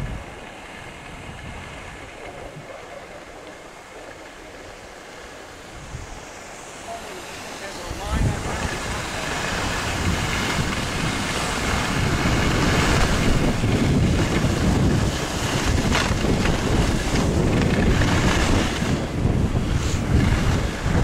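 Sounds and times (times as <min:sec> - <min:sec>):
wind buffeting microphone: 0:00.0 - 0:21.0
skis hissing over snow: 0:00.2 - 0:21.0.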